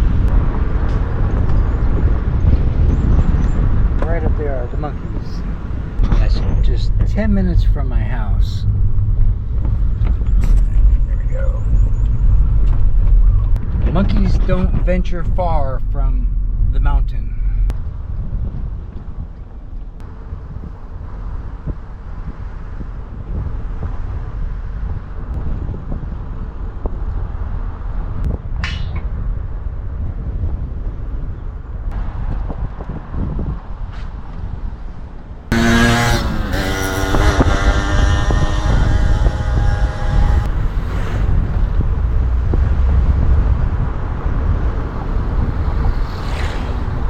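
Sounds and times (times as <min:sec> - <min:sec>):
moving vehicle rumble: 0:00.0 - 0:47.0
road noise: 0:00.0 - 0:47.0
wind buffeting microphone: 0:00.0 - 0:47.0.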